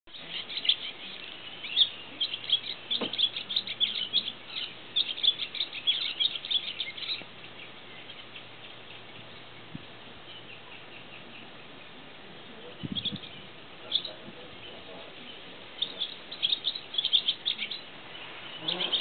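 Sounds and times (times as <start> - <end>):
swallow chirping: 0.1 - 11.5, 12.6 - 19.0.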